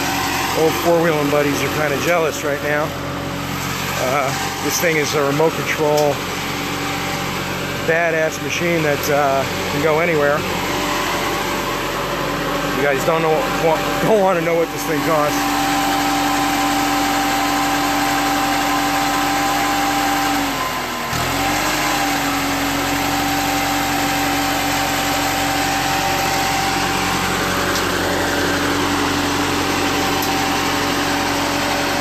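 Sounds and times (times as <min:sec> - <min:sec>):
boom lift engine droning: 0:00.0 - 0:32.0.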